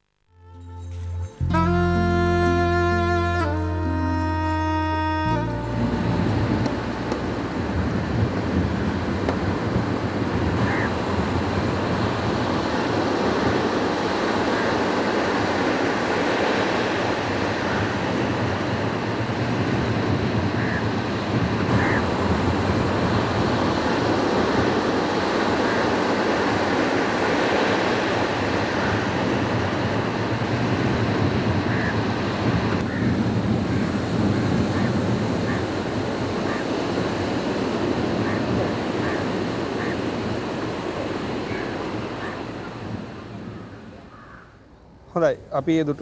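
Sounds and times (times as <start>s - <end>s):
ocean surf washing on beach: 5.0s - 44.2s.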